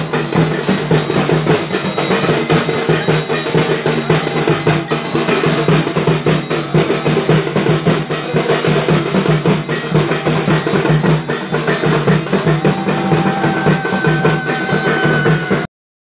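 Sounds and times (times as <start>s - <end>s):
fast ritual drumming: 0.0s - 15.7s
high held tone: 0.0s - 15.7s.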